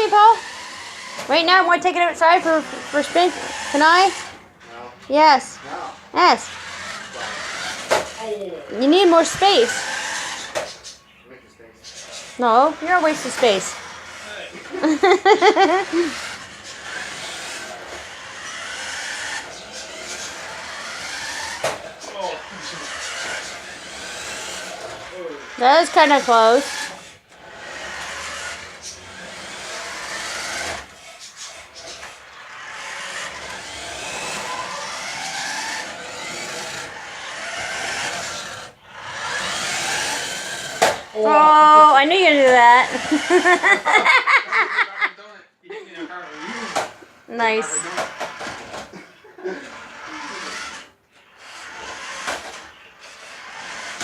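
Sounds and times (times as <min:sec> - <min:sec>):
wheels running over floor: 0:00.0 - 0:11.0, 0:11.8 - 0:44.2, 0:46.1 - 0:54.0
toy car motor whirring: 0:00.0 - 0:44.5, 0:46.1 - 0:54.0.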